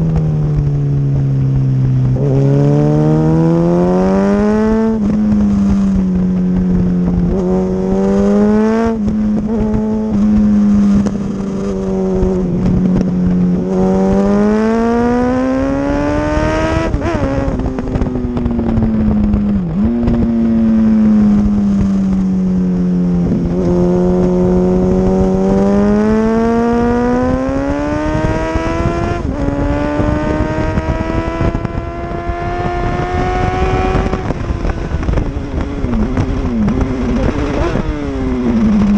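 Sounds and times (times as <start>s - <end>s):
motorcycle engine at speed: 0.0s - 38.9s
wind rushing: 1.7s - 38.9s.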